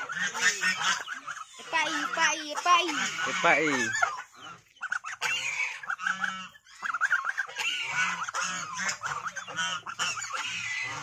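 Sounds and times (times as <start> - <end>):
goose honking: 0.0 - 11.0.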